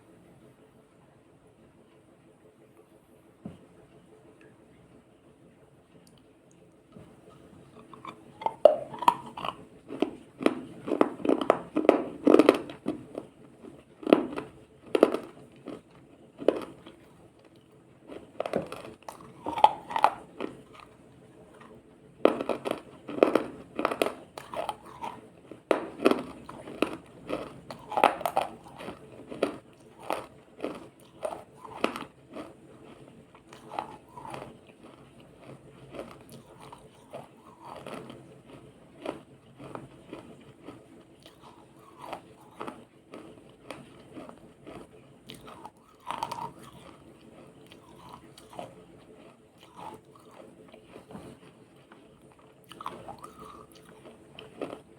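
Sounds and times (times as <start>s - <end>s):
ice being chewed: 7.0s - 54.9s.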